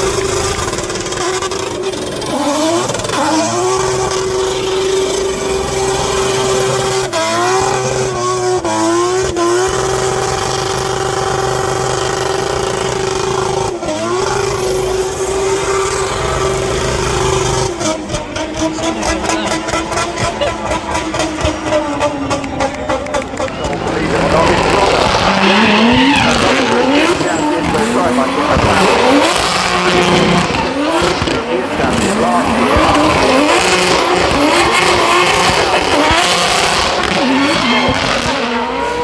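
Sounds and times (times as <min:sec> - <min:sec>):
racing car engine revving: 0:00.0 - 0:39.0.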